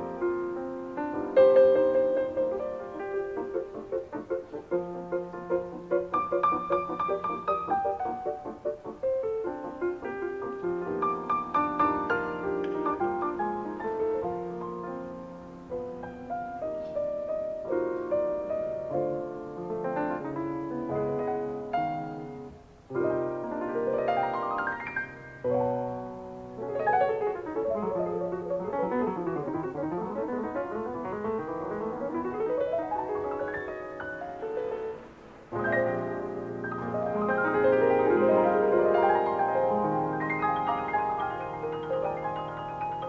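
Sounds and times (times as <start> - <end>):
jazz piano duet: 0.0 - 43.0.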